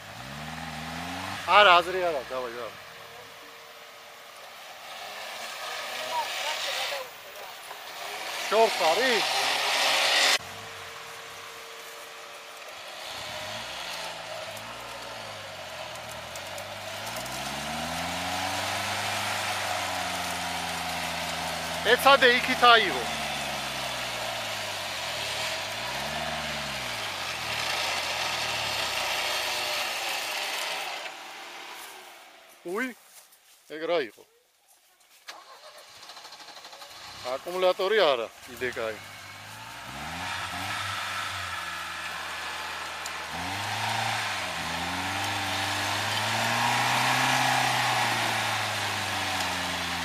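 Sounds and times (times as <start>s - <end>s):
off-road vehicle engine running: 0.0s - 33.0s, 35.3s - 50.0s.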